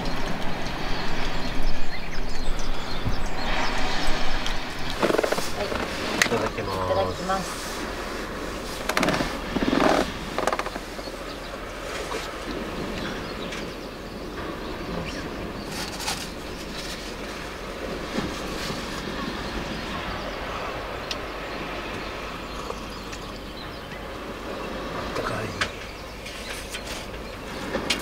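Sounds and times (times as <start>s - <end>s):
outdoor ambient rumble: 0.0s - 28.0s.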